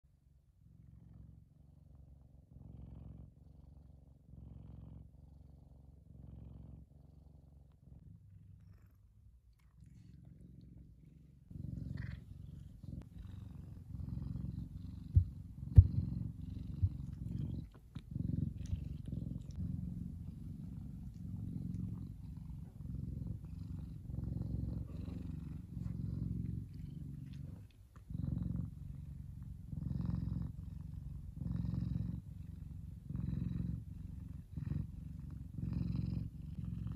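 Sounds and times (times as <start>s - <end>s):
cat purring: 0.1s - 36.9s.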